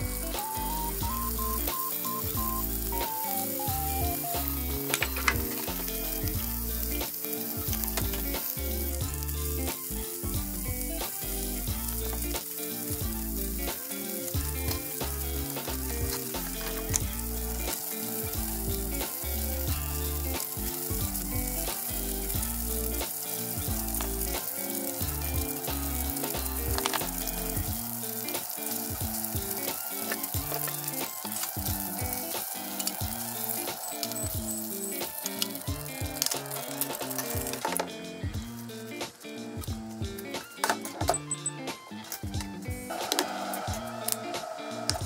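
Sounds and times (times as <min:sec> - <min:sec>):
background music: 0:00.0 - 0:45.0
meat sizzling in oil: 0:00.0 - 0:45.0.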